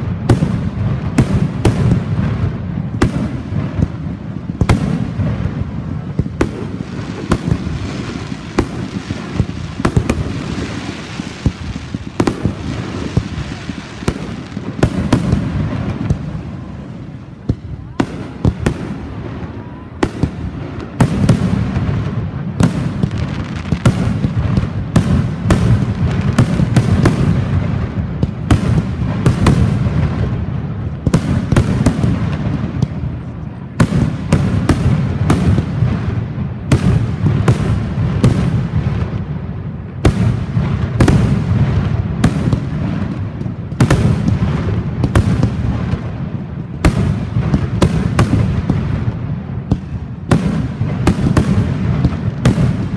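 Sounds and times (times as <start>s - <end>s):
fireworks bangs: 0.0s - 52.9s.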